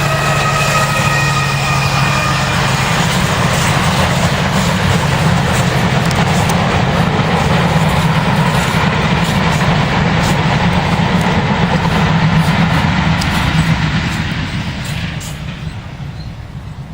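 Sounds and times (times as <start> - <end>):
diesel locomotive working hard: 0.0 - 16.9
freight wagons rolling: 0.0 - 16.9.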